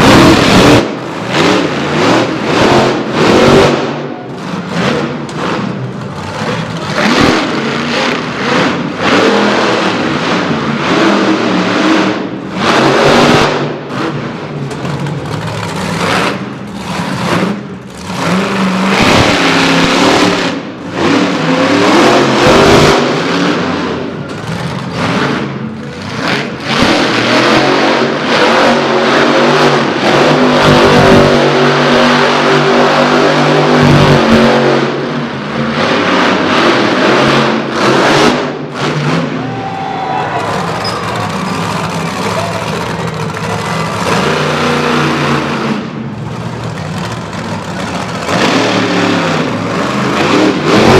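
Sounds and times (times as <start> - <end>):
monster truck engines revving: 0.0 - 50.9.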